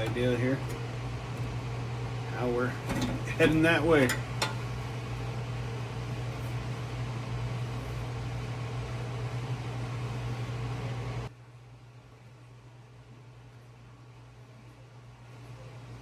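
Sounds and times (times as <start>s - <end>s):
mechanical hum with hiss: 0.0s - 16.0s.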